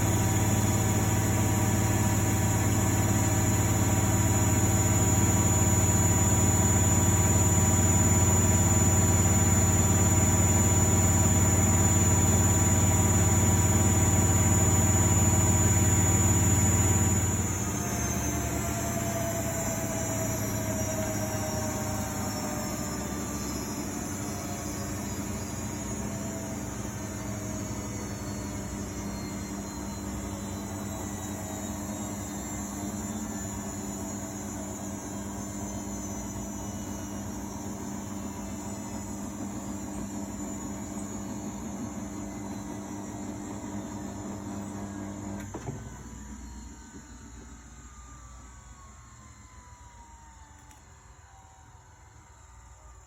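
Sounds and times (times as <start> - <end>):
washing machine motor whine: 0.0 - 53.0.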